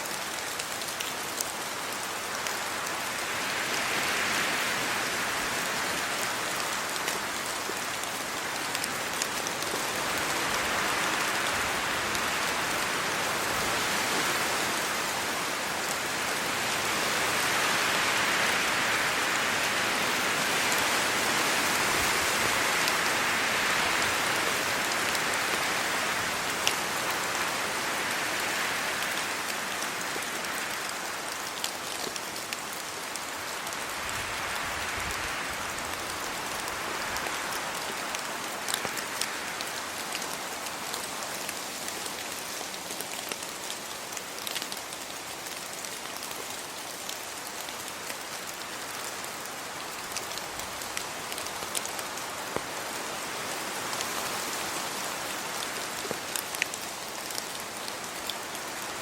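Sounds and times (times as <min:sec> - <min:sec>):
rain falling on trees and road: 0:00.0 - 0:59.0.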